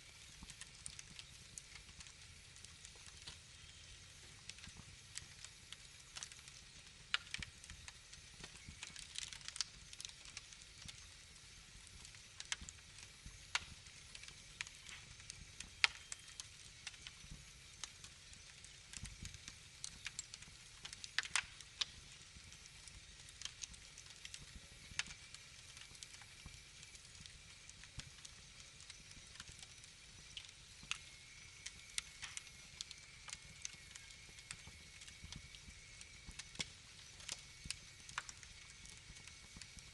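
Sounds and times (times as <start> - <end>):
low rumble of flame: 0.0 - 39.9
wood fire crackling: 0.0 - 39.9.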